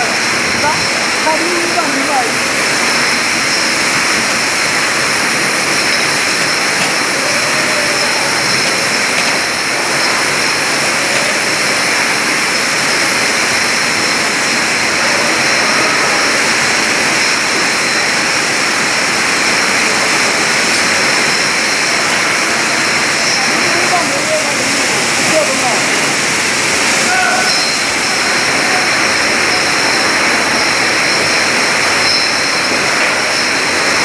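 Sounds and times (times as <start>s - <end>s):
bottling machine drone: 0.0s - 34.0s
high-pitched machine whines: 0.0s - 34.0s.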